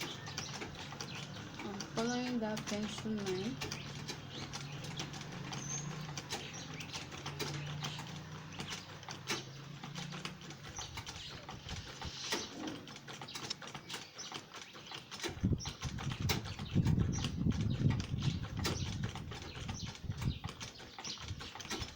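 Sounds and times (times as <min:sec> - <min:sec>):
sewing machine stitching: 0:00.0 - 0:21.9.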